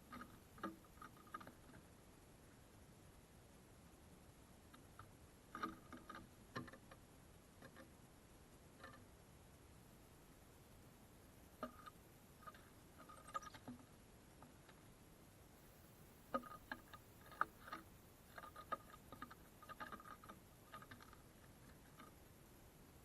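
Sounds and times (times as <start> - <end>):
birds pecking at a feeder: 0.0 - 2.7, 4.0 - 9.7, 11.4 - 15.0, 15.6 - 23.0.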